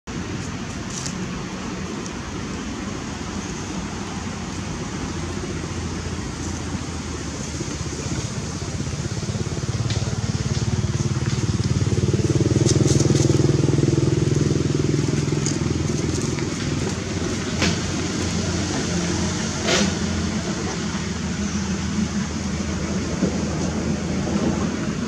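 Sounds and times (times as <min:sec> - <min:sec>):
vehicle engine running: 0:01.0 - 0:25.0.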